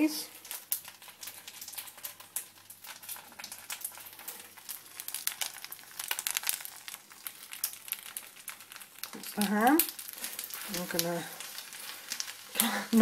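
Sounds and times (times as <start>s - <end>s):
crackling and rustling of food: 0.0s - 13.0s.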